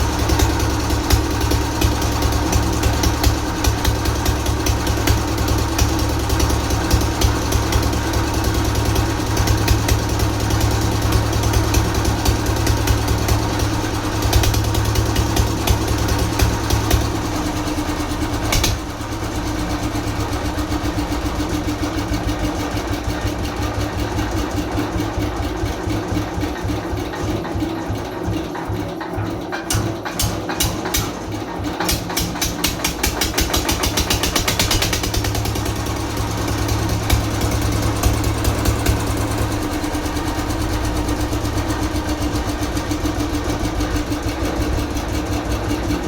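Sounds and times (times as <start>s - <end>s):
diesel engine running: 0.0s - 46.0s
sharp engine knock: 0.0s - 46.0s.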